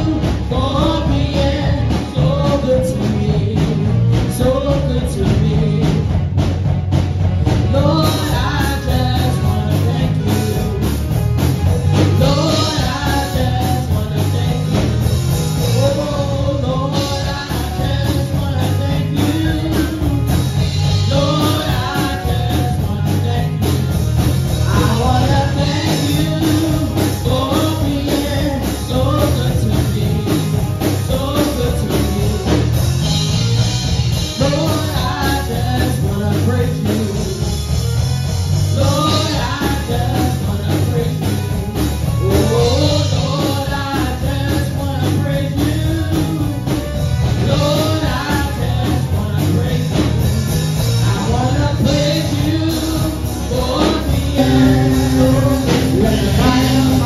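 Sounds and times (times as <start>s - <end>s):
person singing: 0.0s - 6.3s, 7.5s - 38.0s, 38.7s - 57.0s
rock band playing: 0.0s - 57.0s.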